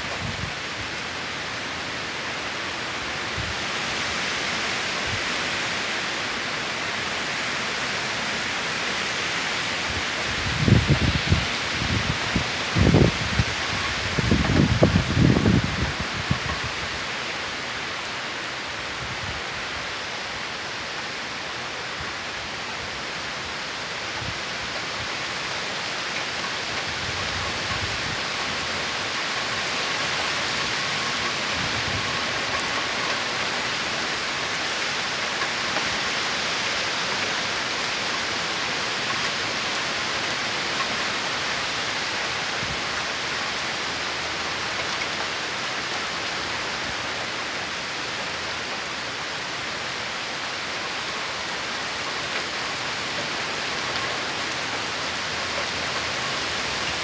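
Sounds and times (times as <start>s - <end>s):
torrential rain pouring: 0.0s - 57.0s.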